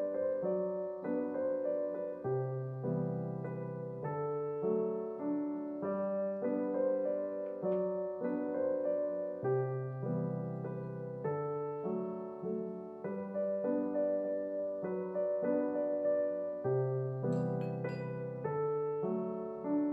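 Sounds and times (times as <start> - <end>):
gentle solo piano music: 0.0 - 19.9.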